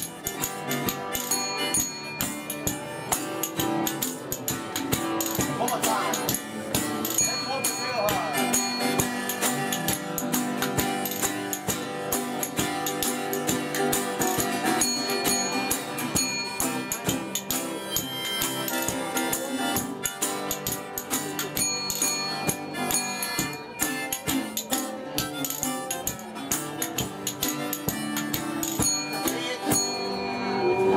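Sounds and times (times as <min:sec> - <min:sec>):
guitars strummed and picked: 0:00.0 - 0:30.9
harmonica long notes: 0:00.1 - 0:30.9.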